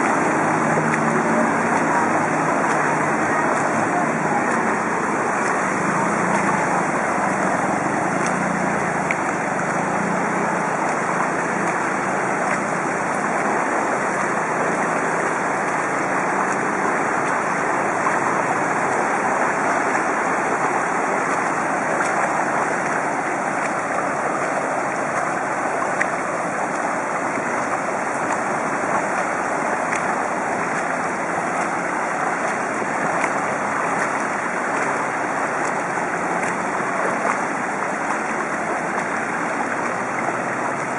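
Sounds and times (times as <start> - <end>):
tyres running through water: 0.0 - 40.9.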